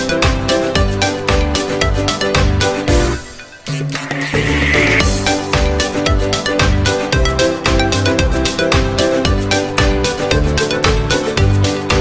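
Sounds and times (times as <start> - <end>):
electronic music with bass thump: 0.0 - 12.0.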